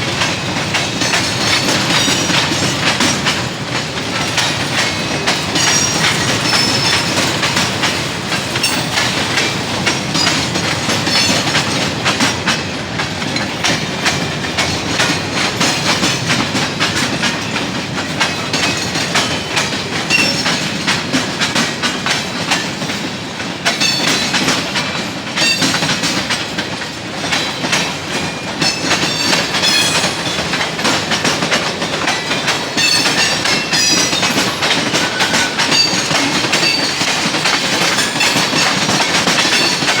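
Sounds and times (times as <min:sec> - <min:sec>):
train wheels clacking over rail joints: 0:00.0 - 0:40.0.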